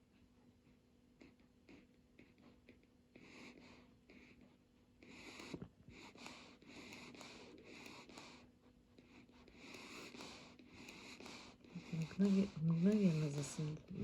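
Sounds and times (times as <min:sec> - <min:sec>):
dog breathing through nose: 0:01.7 - 0:14.0.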